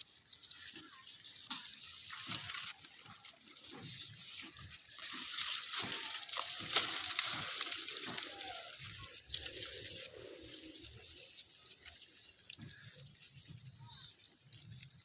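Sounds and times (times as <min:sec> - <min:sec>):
hands digging wet soil: 0:01.6 - 0:13.8.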